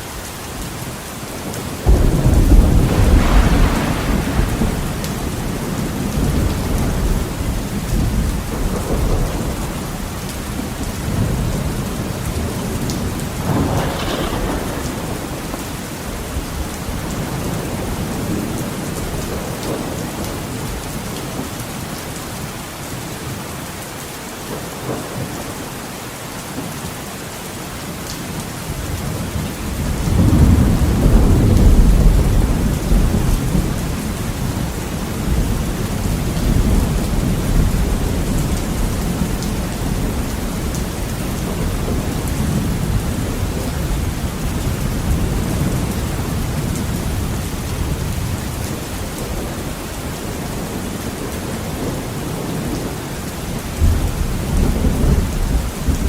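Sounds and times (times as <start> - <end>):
heavy rain against a window: 0.0 - 56.0
thunder rumbling: 1.4 - 20.8, 29.0 - 56.0.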